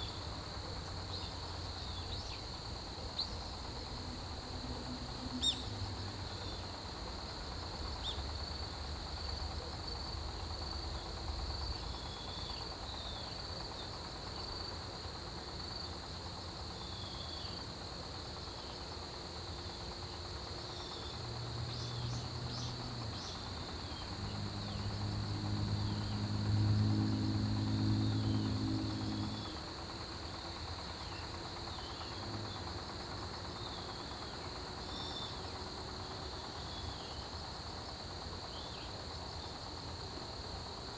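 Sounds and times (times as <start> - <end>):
low mechanical hum: 0.0 - 40.6
crickets chirping: 0.0 - 40.9.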